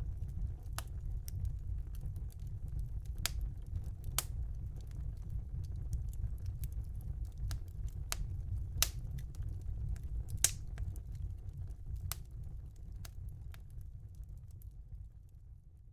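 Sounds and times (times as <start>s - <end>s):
fire crackling and popping: 0.0s - 15.6s
low steady fire rumble: 0.0s - 15.9s.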